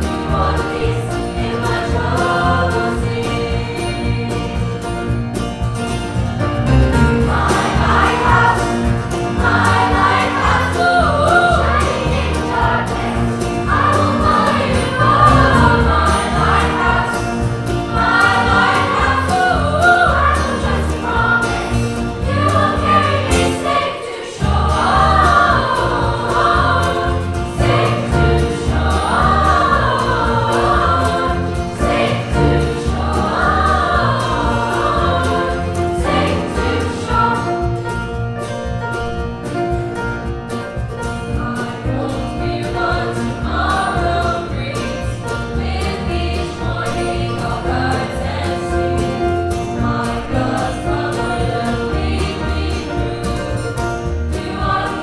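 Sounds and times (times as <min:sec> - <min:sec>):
children's choir singing: 0:00.0 - 0:05.3, 0:06.2 - 0:39.3, 0:40.7 - 0:55.0.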